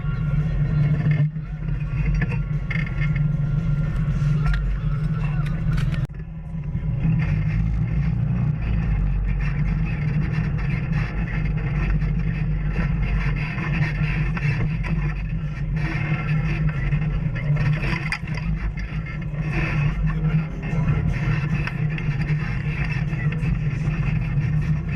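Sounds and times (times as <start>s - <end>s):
off-road vehicle engine: 0.0s - 24.9s
tyres on rough terrain: 0.0s - 24.9s.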